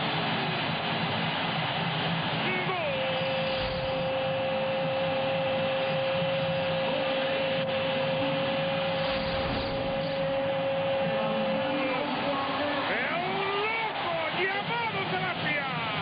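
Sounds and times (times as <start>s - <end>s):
stadium crowd noise: 0.0s - 16.0s.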